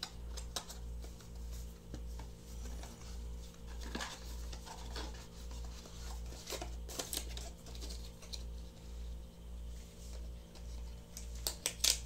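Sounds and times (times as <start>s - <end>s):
low pulsing hum: 0.0s - 11.4s.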